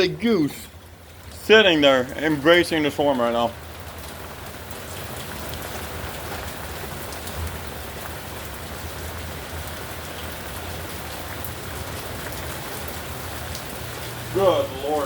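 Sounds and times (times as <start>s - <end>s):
torrential rain: 0.0s - 15.0s.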